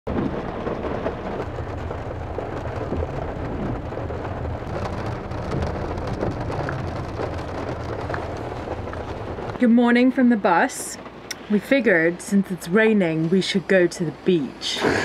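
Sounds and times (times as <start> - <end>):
low even rumble: 0.1 - 14.5
rain on car roof: 0.1 - 15.0.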